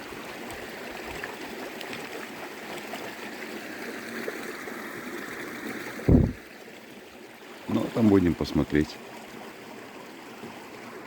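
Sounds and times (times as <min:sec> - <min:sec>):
stream flowing water: 0:00.0 - 0:11.0.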